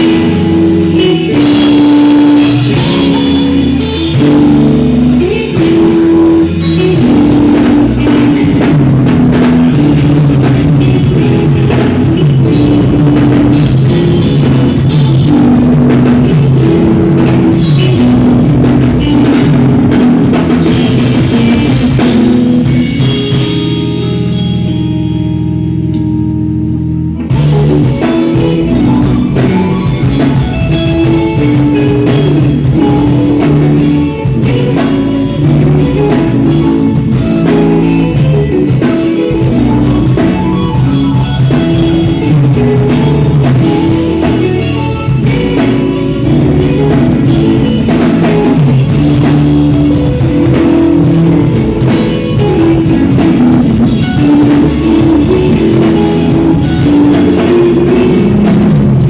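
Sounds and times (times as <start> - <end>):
bass guitar: 0.0 - 59.0
drum kit: 0.0 - 59.0
picked electric guitar: 0.0 - 59.0.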